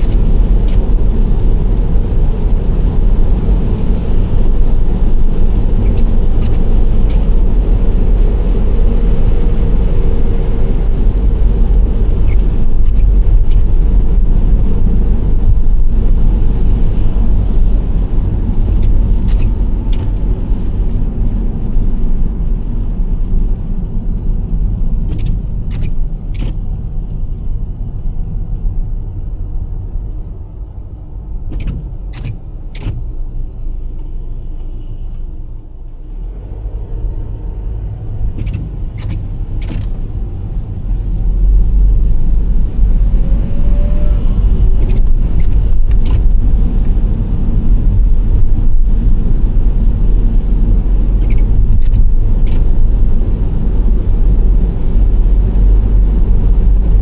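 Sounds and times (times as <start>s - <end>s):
minivan road and engine rumble: 0.0s - 57.0s.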